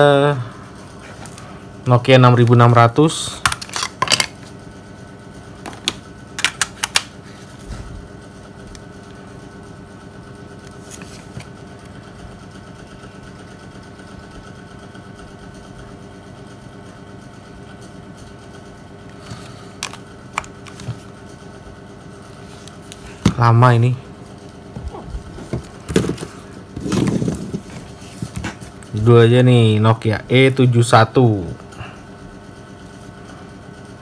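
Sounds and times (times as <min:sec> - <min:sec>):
steady background hum: 0:00.0 - 0:34.0.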